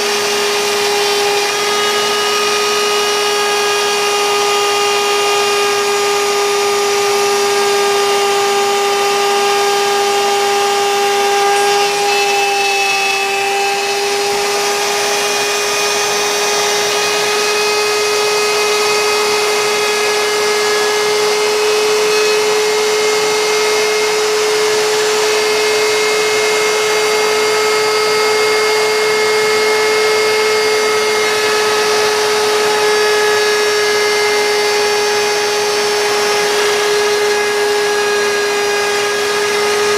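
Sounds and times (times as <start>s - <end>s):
router spindle whine: 0.0s - 39.9s
wood cutting noise: 0.0s - 39.9s.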